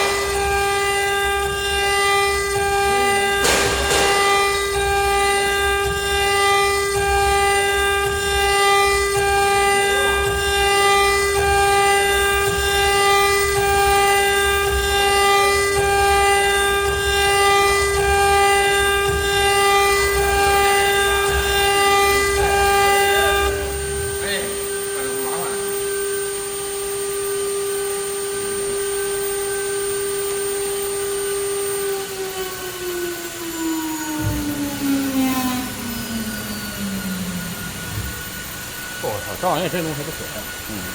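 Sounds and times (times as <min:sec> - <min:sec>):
router spindle whine: 0:00.0 - 0:40.9.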